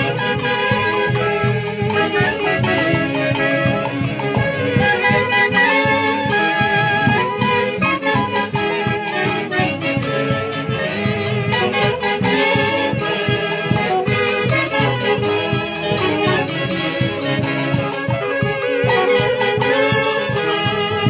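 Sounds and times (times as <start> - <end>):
band playing lively dance tune: 0.0 - 21.0.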